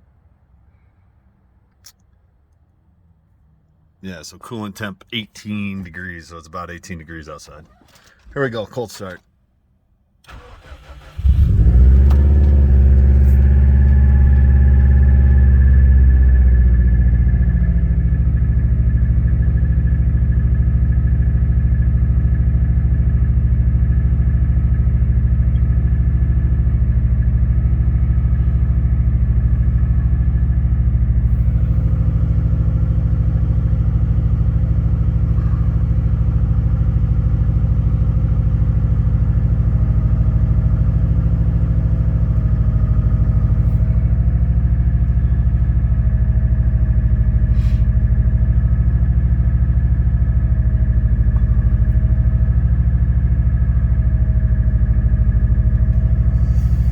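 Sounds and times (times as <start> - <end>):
car engine idling: 10.2 - 56.9.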